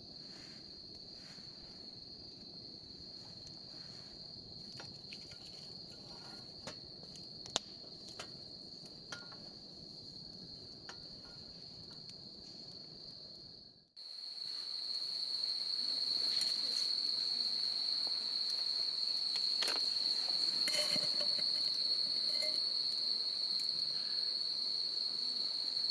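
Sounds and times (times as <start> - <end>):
crickets chirring: 0.0 - 25.9.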